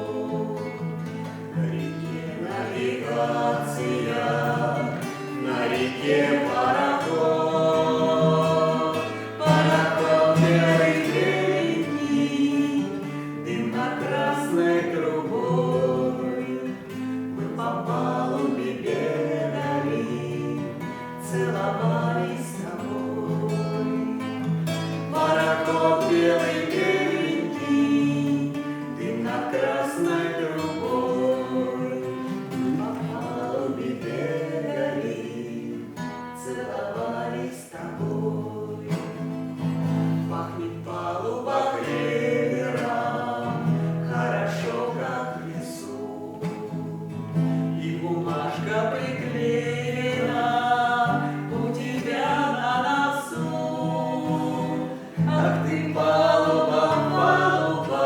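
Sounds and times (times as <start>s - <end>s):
acoustic guitar: 0.0s - 58.0s
voices singing together: 0.0s - 58.0s.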